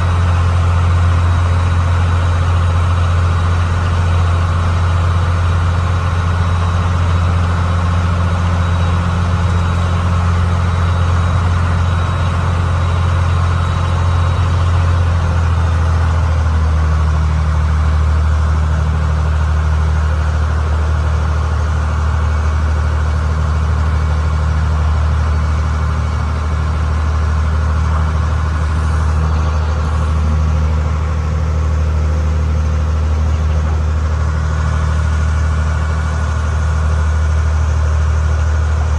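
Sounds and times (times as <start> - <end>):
ferry engine humming: 0.0 - 38.9.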